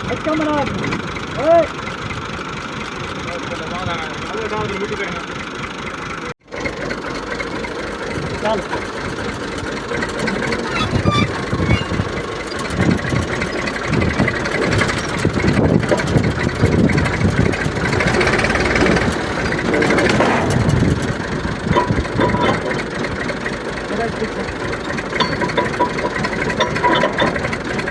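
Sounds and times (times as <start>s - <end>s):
tractor engine running hard: 0.0s - 27.9s.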